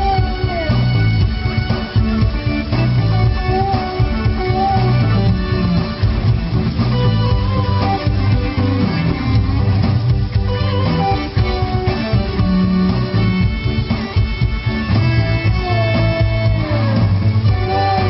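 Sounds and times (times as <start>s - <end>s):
keyboard guitar sound: 0.0s - 18.0s
steady bass: 0.0s - 18.0s.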